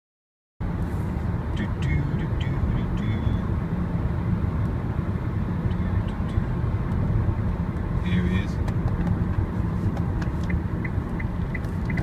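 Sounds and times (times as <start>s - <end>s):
tyre and road noise in car: 0.6s - 12.0s.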